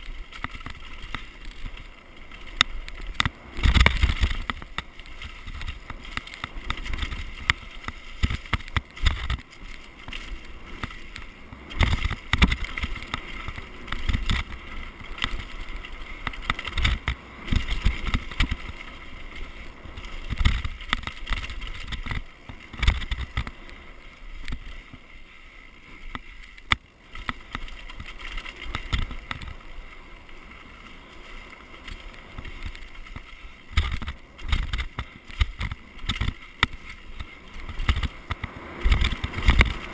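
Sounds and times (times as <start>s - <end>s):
bike knocking and rattling: 0.0s - 39.9s
tyres rumbling over dirt: 0.0s - 39.9s.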